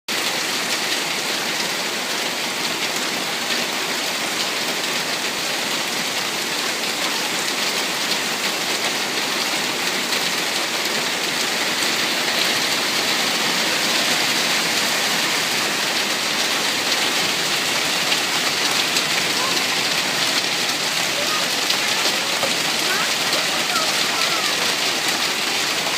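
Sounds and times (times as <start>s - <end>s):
rain pattering on surfaces: 0.1s - 25.9s.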